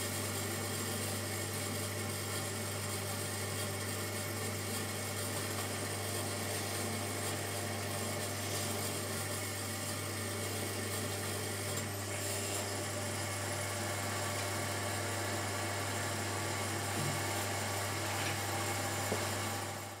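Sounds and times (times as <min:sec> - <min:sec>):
potter's wheel motor hum: 0:00.0 - 0:20.0.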